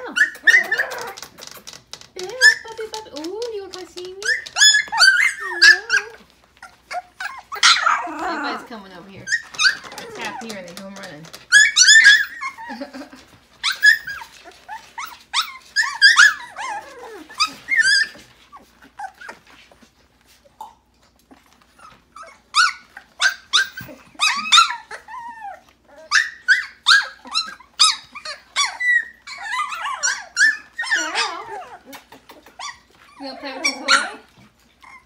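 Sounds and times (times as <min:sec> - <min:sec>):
puppies squealing and yipping: 0:00.0 - 0:35.0.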